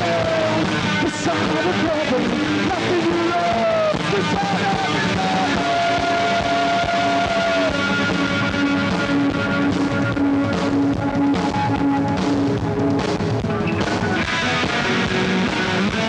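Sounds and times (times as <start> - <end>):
electric guitar held notes: 0.0 - 16.0
live rock band playing: 0.0 - 16.0.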